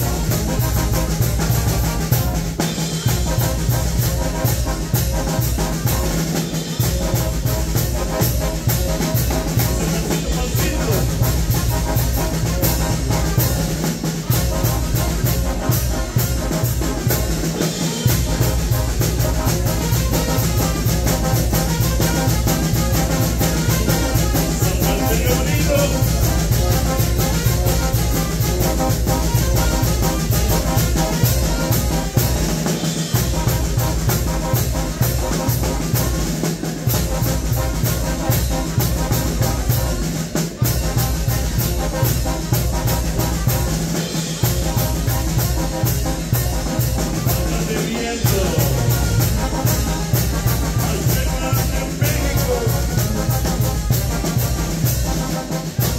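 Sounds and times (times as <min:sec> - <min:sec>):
bass drum with cymbals: 0:00.0 - 0:55.9
trumpets: 0:00.0 - 0:55.9
tuba: 0:00.0 - 0:55.9.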